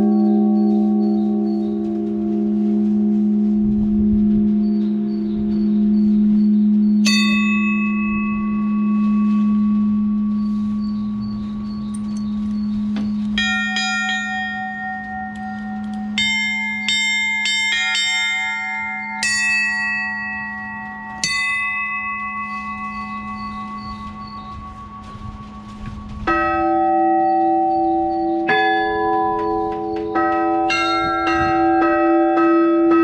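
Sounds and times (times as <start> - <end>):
deep wavering bell hum: 0.0 - 33.0
higher-pitched bells struck: 0.0 - 33.0.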